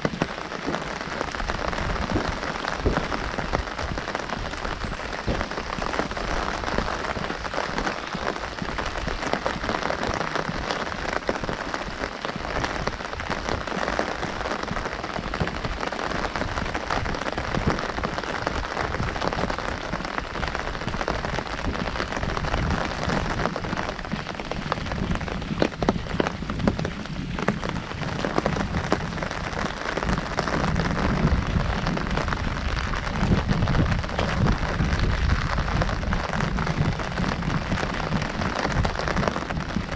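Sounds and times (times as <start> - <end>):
heavy rain on umbrella: 0.0 - 39.9.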